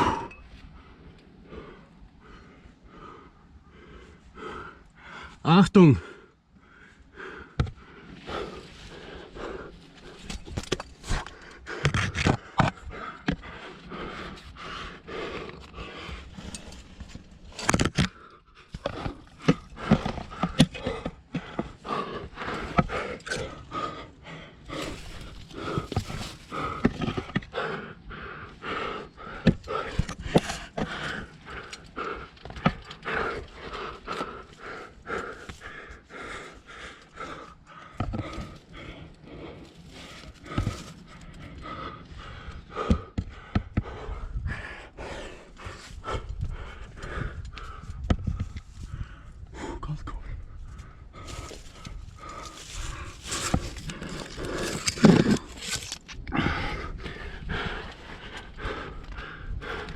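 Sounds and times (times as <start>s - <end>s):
person panting hard: 0.0s - 59.9s.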